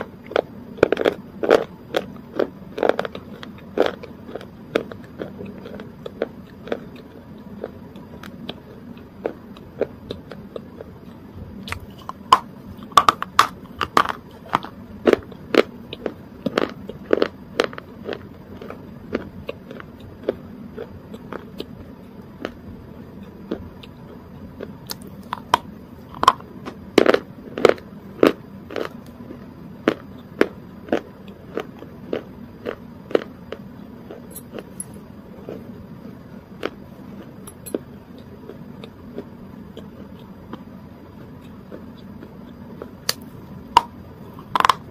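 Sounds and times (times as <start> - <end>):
crunchy chewing and mouth sounds: 0.0 - 44.9.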